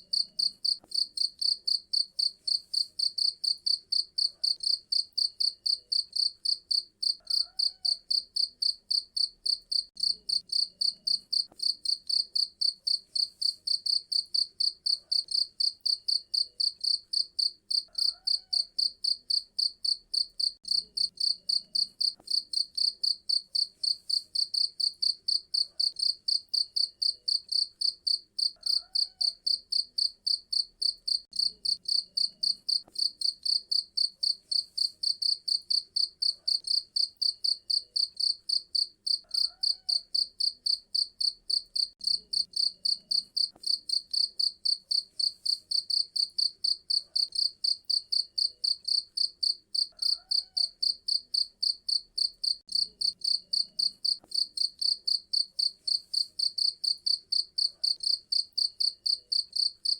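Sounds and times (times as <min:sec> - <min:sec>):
cricket chirping: 0:00.1 - 0:59.9.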